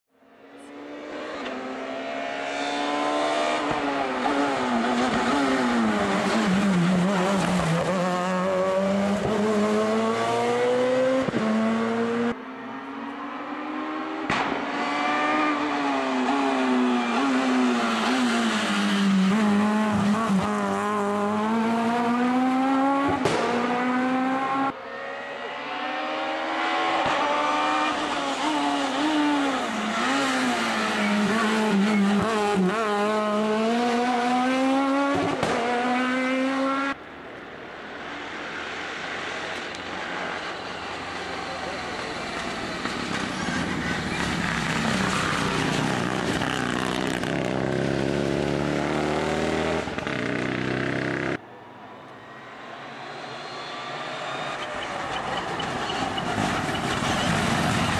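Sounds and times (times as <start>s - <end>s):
rally car engines revving: 0.5s - 37.0s, 38.2s - 51.4s.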